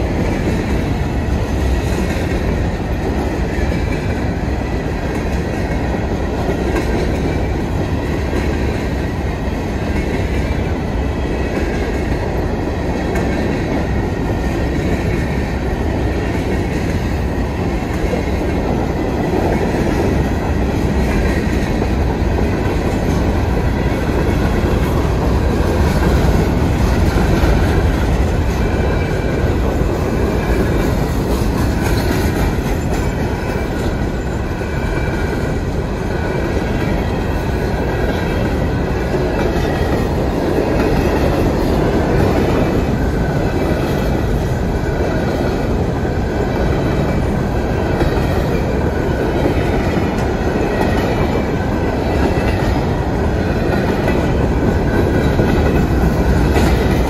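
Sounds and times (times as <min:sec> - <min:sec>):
freight train rumbling past: 0:00.0 - 0:57.0
wheels clacking over rails: 0:00.0 - 0:57.0.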